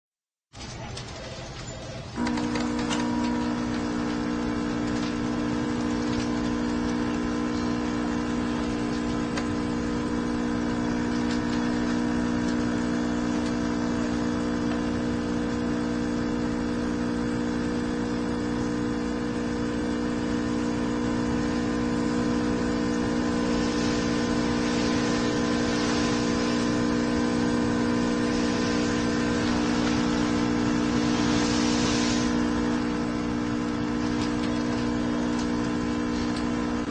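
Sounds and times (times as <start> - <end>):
coffee machine hissing: 0.6 - 36.9
coffee machine humming: 0.6 - 36.9.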